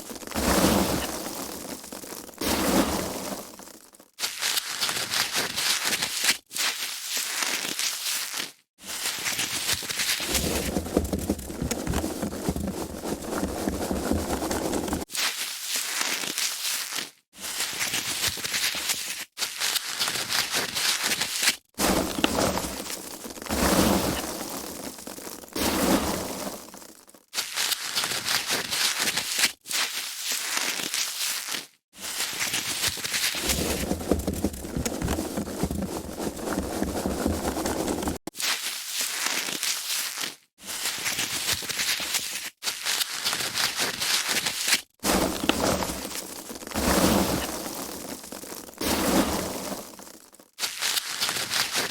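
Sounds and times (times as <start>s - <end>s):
foam packaging crinkling: 0.0s - 51.9s.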